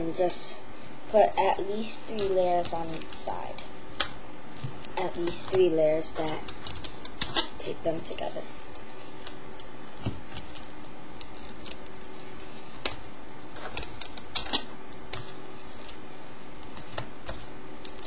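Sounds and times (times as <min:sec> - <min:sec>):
faint steady hum: 0:00.0 - 0:18.0
paper crinkling: 0:01.2 - 0:03.4, 0:04.0 - 0:18.0.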